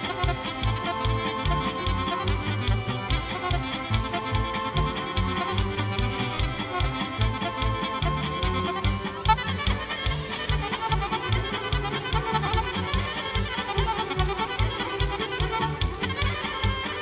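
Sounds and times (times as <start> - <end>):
accordion: 0.0 - 17.0
fast folk dance tune: 0.0 - 17.0
quick bass beat: 0.0 - 17.0
saxophone: 0.0 - 17.0
violins: 0.0 - 17.0.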